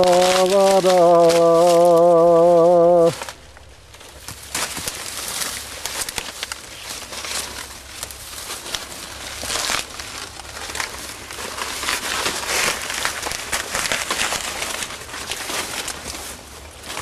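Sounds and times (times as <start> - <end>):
dry corn stalks rustling: 0.0 - 17.0.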